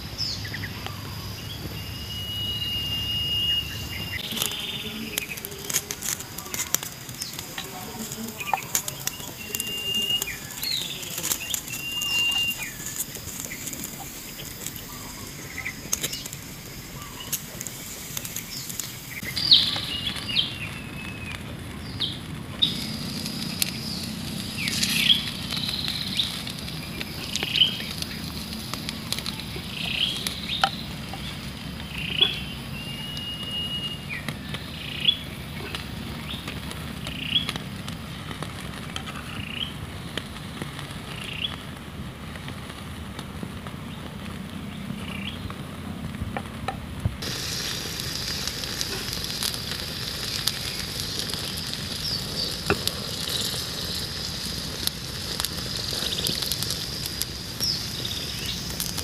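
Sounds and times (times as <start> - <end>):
birds chirping and whistling: 0.0 - 41.6, 43.9 - 45.5, 47.2 - 59.0
steady high hiss: 0.0 - 59.0
wood fire crackling: 0.0 - 59.0.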